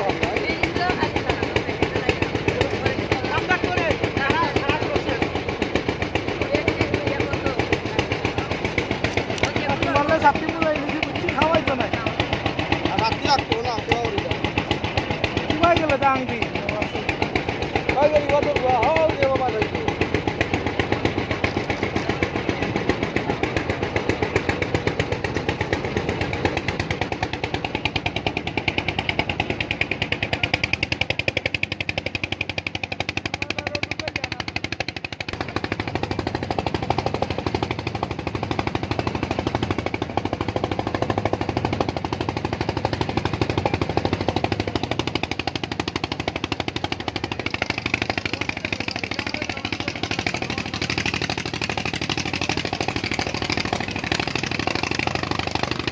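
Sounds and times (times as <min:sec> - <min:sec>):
engine puttering: 0:00.0 - 0:55.9.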